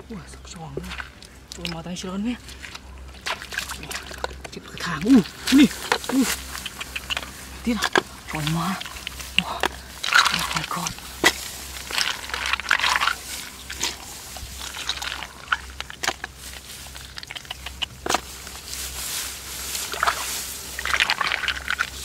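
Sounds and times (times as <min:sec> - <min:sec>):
hands splashing in muddy water: 0:00.6 - 0:22.0.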